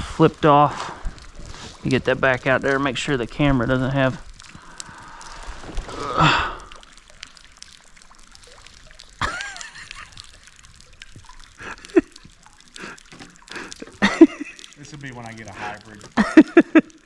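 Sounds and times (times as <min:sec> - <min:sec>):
rushing water splash: 0:00.0 - 0:17.0
water trickling and dripping: 0:00.0 - 0:17.0.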